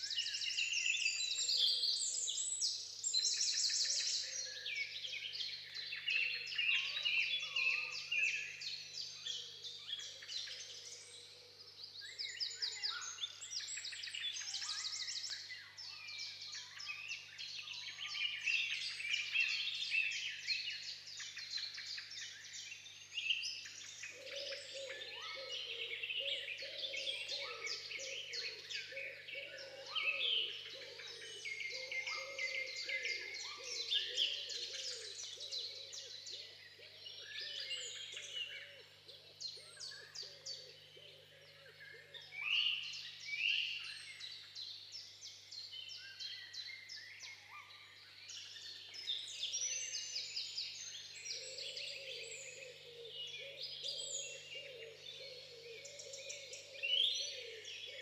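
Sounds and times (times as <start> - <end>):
lower warbling bird song: 0.0 - 58.0
songbirds singing and chirping: 0.0 - 58.0.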